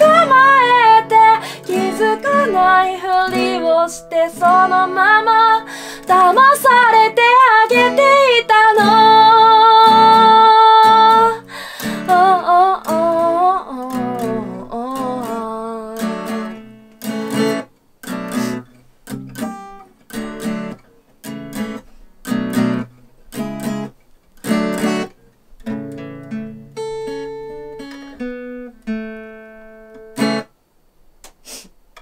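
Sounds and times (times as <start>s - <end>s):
acoustic guitar strumming: 0.0s - 30.6s.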